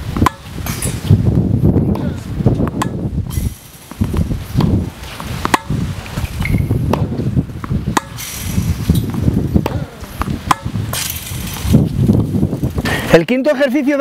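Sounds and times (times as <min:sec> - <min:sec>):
tennis balls struck and bouncing: 0:00.0 - 0:01.2, 0:01.8 - 0:12.3
steady low rumble: 0:00.0 - 0:12.9.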